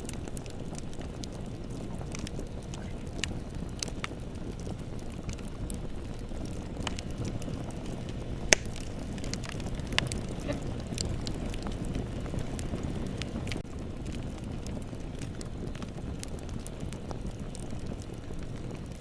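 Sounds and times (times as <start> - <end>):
bonfire rumbling: 0.0 - 19.0
fire crackling and popping: 0.0 - 19.0.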